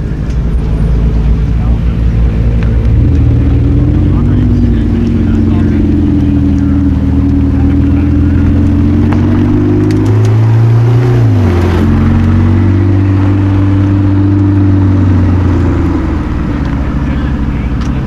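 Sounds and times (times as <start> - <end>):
car engine idling: 0.0 - 18.0
engine throttle blip: 0.0 - 18.0.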